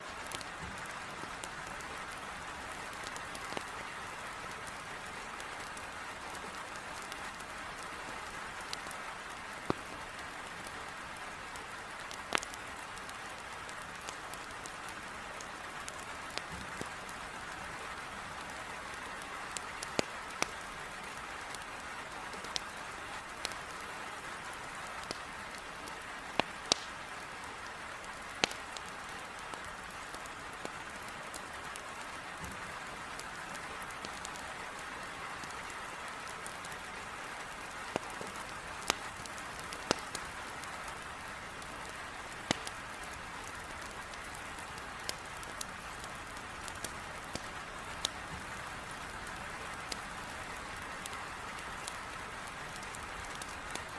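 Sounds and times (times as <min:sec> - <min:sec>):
heavy rain against a window: 0:00.0 - 0:53.9
wood fire crackling and popping: 0:00.0 - 0:53.9.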